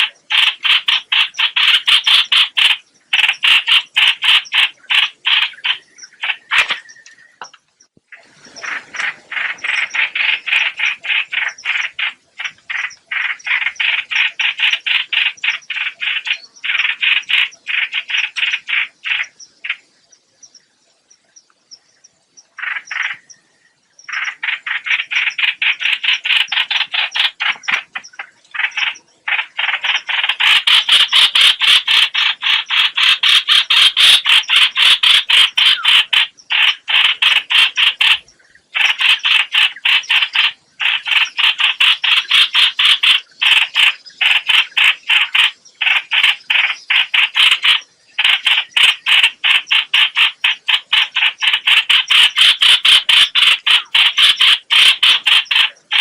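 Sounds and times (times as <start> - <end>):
bird call dry rattle: 0.0 - 7.6, 8.2 - 19.8, 24.1 - 56.0.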